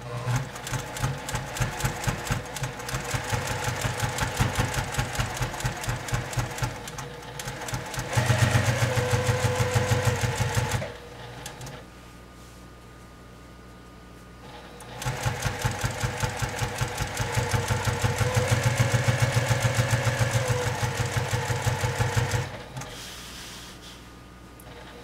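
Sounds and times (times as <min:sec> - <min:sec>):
sewing machine stitching: 0:00.0 - 0:11.8, 0:14.4 - 0:23.0.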